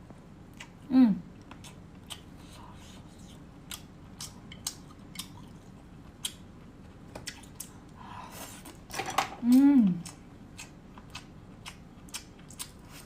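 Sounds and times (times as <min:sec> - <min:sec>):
person chewing: 0:00.5 - 0:08.9, 0:09.5 - 0:13.0.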